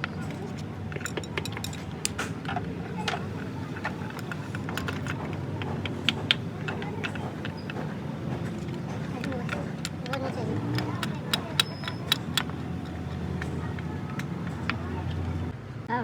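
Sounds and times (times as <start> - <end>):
metal tools clinking: 0.0 - 15.5
low workshop rumble: 0.0 - 15.9.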